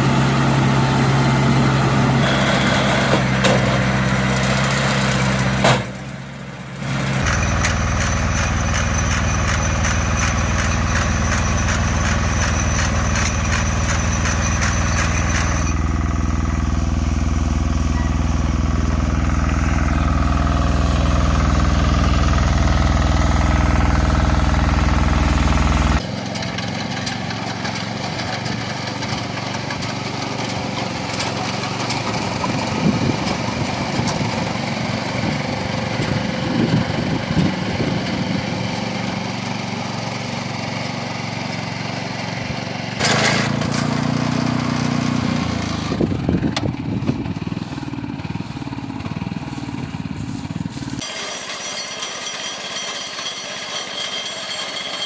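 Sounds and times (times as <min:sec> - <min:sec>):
hay baler mechanical clatter: 0:00.0 - 0:55.0
tractor engine running under load: 0:00.0 - 0:55.0.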